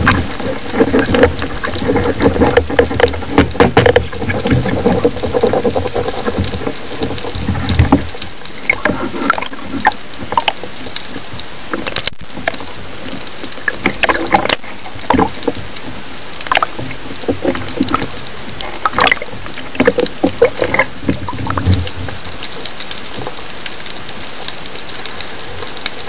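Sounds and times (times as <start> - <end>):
churning water underwater: 0.0 - 26.0.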